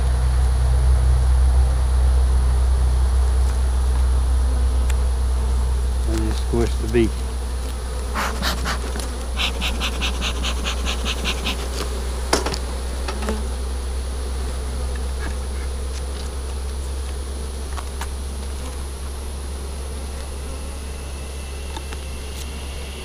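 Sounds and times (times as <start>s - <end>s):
bees buzzing: 4.4s - 23.0s.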